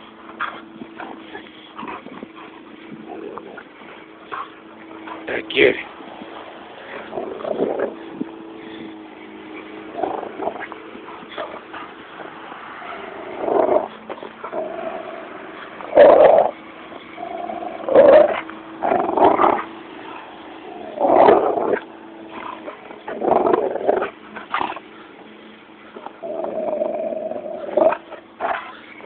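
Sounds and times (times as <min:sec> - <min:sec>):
dog growling: 0:00.0 - 0:24.9, 0:25.9 - 0:29.0.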